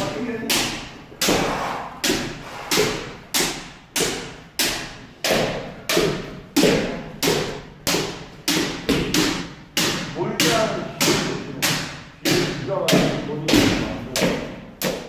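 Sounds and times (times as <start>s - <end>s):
kendo strikes and stamps: 0.5s - 15.0s.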